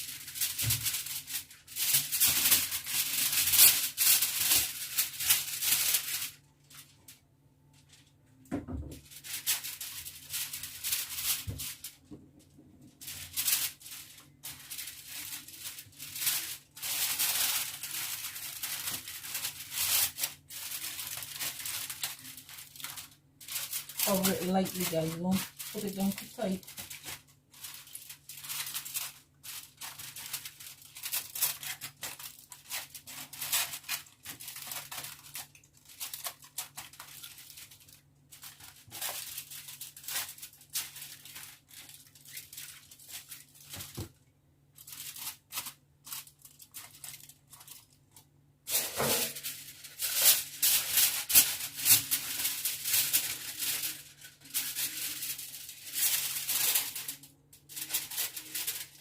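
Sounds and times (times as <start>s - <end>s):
aluminium foil crinkling: 0.0s - 59.0s.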